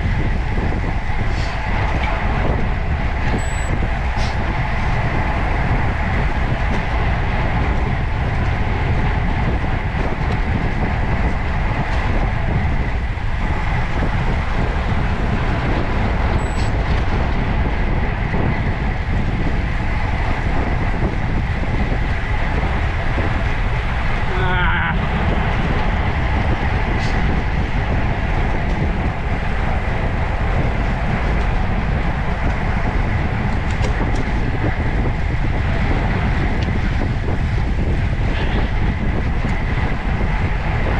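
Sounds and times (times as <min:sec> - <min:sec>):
bicycle road noise: 0:00.0 - 0:40.9
wind rush: 0:00.0 - 0:40.9.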